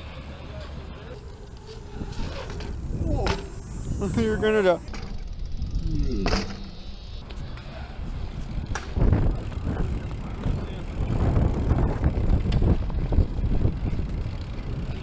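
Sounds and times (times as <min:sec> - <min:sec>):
bicycle tyres rolling on concrete: 0:00.0 - 0:15.0.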